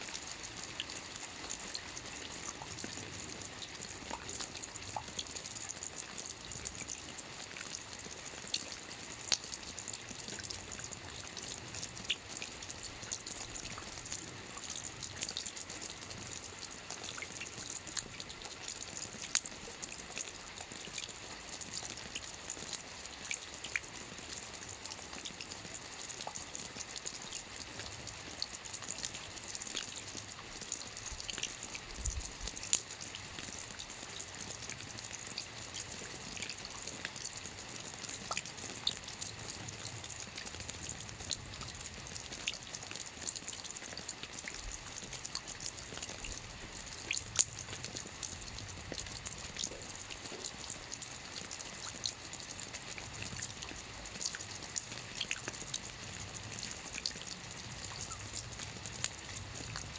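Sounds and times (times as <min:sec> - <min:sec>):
raindrops pattering and dripping: 0:00.0 - 0:59.9
steady rain hissing: 0:00.0 - 0:59.9.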